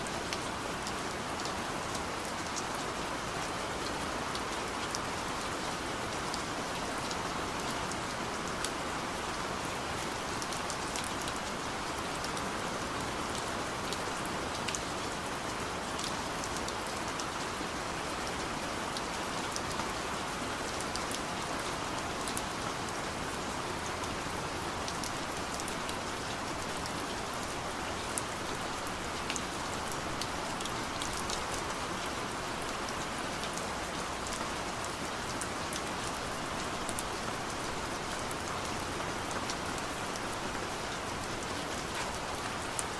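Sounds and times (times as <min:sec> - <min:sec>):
rain on a surface: 0:00.0 - 0:42.9.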